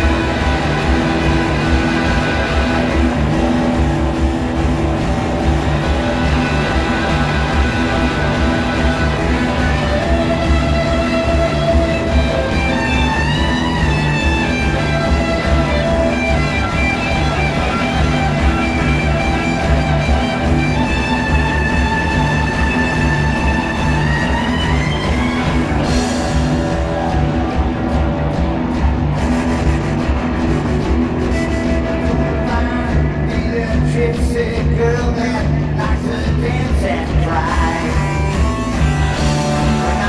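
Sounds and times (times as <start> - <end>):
held lead guitar notes: 0.0 - 36.5, 37.1 - 40.0
live rock band playing: 0.0 - 40.0.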